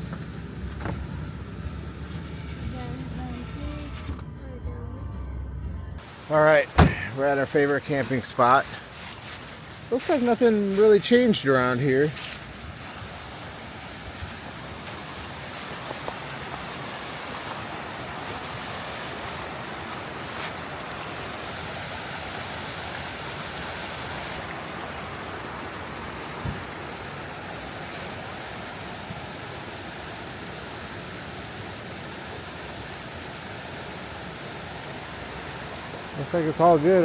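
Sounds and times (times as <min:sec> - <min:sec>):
creek rushing: 0:06.0 - 0:37.0.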